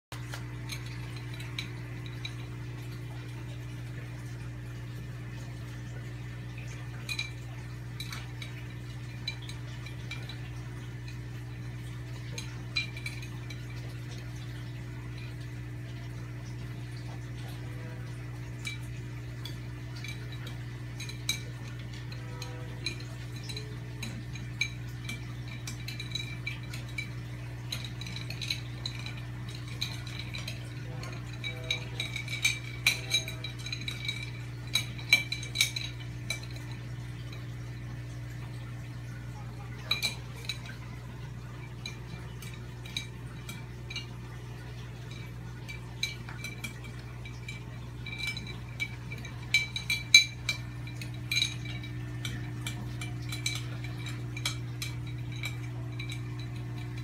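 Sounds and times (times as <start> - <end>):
aquarium equipment humming: 0.1 - 57.0
water dripping: 0.1 - 57.0
light clinks: 0.2 - 57.0.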